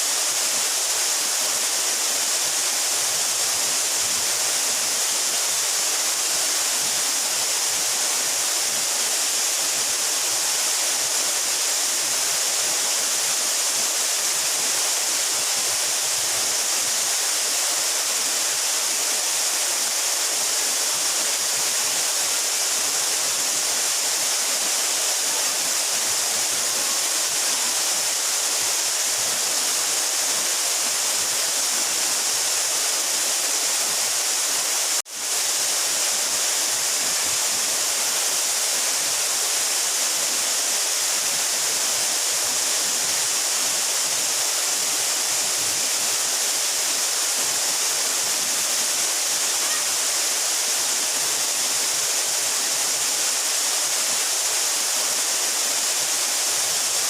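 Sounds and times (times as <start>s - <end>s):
waterfall hissing: 0.0s - 57.0s.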